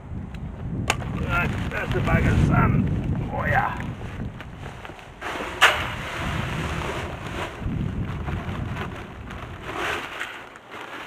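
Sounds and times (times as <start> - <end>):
sand and gravel pouring: 1.1 - 11.0.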